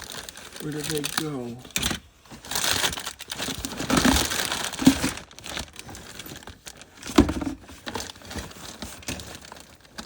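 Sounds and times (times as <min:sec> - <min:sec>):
hands rummaging through objects: 0:00.0 - 0:10.0.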